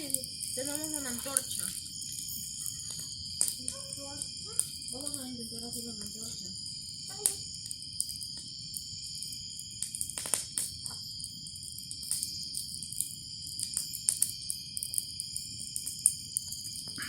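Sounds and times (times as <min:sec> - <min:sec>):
bonfire crackling: 0:00.0 - 0:17.0
crickets and insects trilling: 0:00.0 - 0:17.0.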